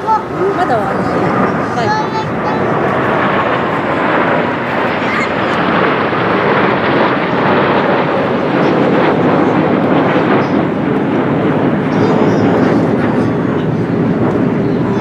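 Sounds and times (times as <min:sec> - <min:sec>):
jet engines overhead: 0:00.0 - 0:15.0.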